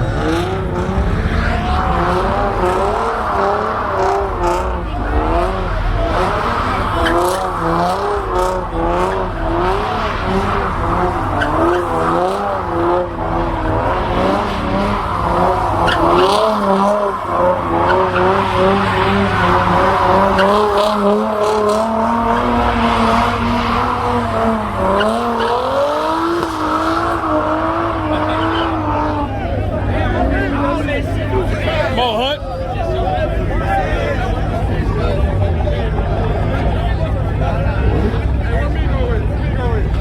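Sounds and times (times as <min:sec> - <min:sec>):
car tires squealing: 0:00.0 - 0:32.0
car engine at high revs: 0:00.0 - 0:40.0.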